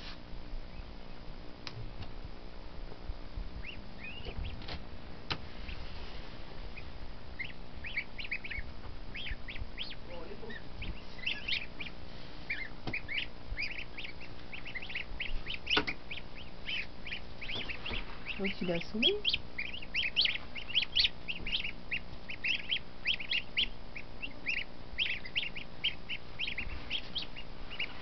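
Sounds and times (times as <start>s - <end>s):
goslings peeping: 0.0s - 1.4s, 2.0s - 28.0s
incubator humming: 0.0s - 28.0s.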